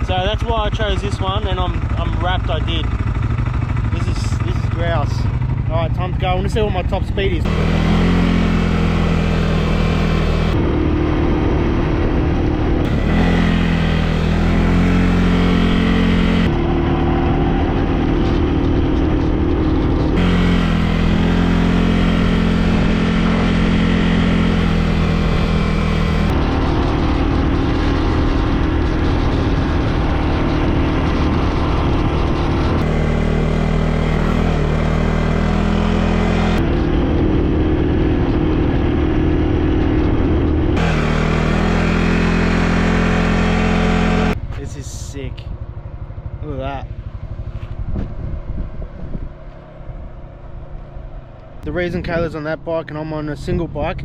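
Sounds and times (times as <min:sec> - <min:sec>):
quad bike engine running hard: 0:00.0 - 0:44.6
wind and riding noise: 0:00.0 - 0:54.0.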